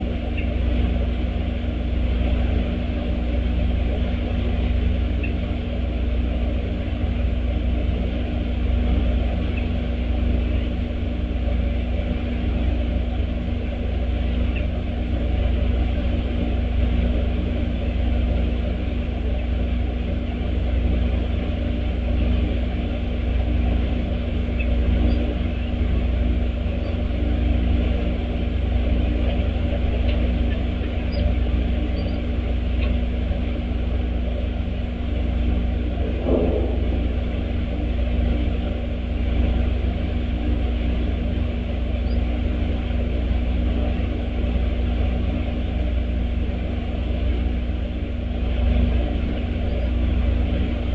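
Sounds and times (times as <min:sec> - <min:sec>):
constant hum: 0:00.0 - 0:50.9
low outdoor rumble: 0:00.0 - 0:50.9.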